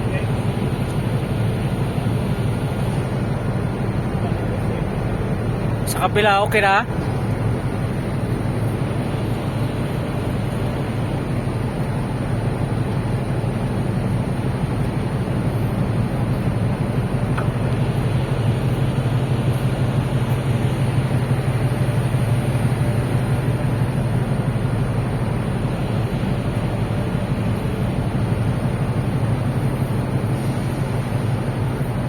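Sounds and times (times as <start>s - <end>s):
ship engines rumbling: 0.0s - 32.0s.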